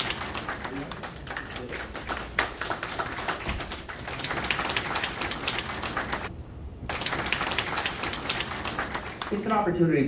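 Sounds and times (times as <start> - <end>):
audience clapping: 0.0 - 6.3, 6.9 - 9.8.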